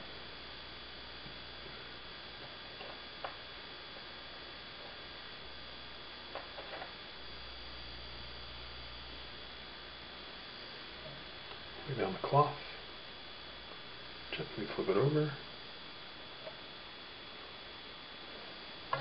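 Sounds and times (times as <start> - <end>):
background hum and hiss: 0.0 - 19.0.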